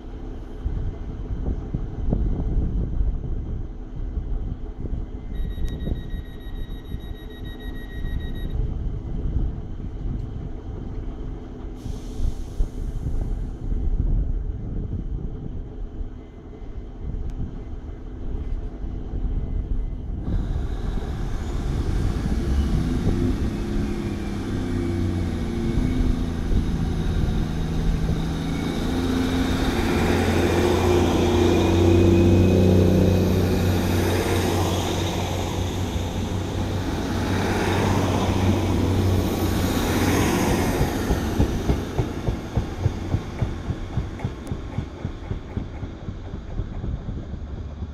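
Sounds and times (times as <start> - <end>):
diesel train engine pulling away: 8.6 - 47.9.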